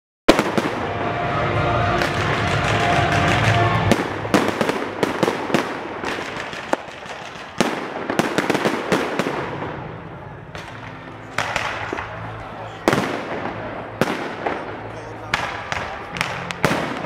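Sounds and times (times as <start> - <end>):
fireworks bangs and crackling: 0.3 - 17.0.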